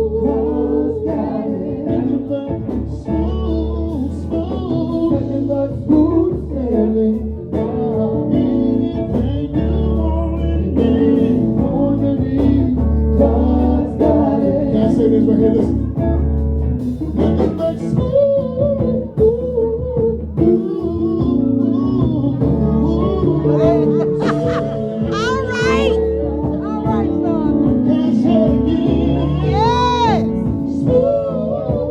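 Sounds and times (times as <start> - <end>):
electric guitar and bass: 0.0 - 31.9
gospel group singing: 0.0 - 31.9.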